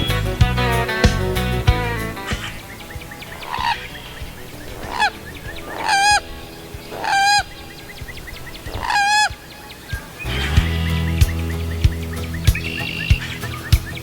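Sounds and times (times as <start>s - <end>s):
gallinule calling: 1.7s - 14.0s.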